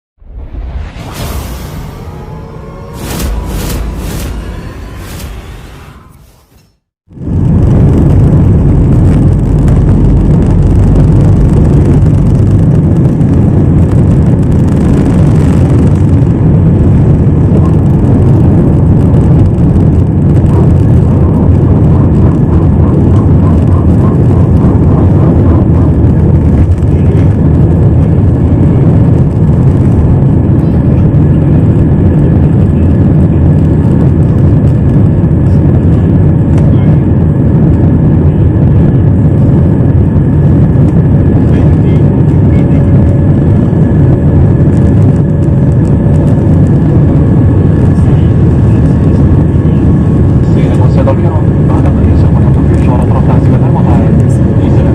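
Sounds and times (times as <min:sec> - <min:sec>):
jet engines at takeoff: 0:00.2 - 0:54.9.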